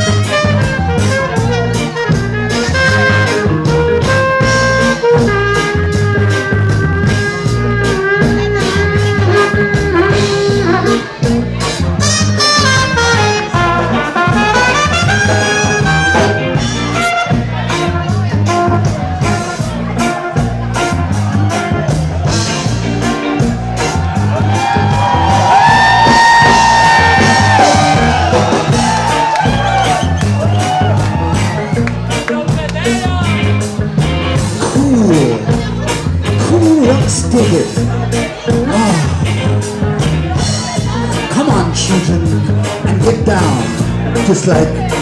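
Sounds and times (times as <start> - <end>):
ska band playing: 0.0 - 45.0.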